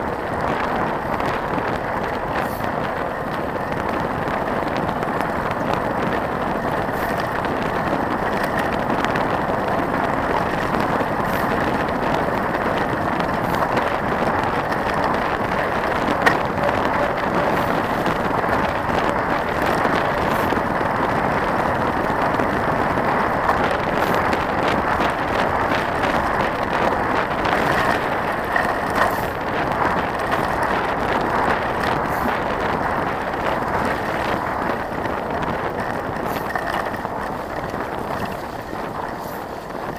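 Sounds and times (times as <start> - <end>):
bike tyres on gravel: 0.0 - 39.9
small clicks and rattles: 0.0 - 39.9.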